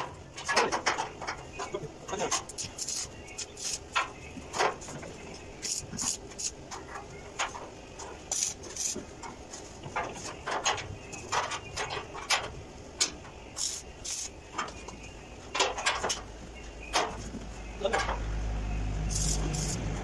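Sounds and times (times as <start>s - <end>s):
metal clunks and scrapes: 0.0s - 18.4s.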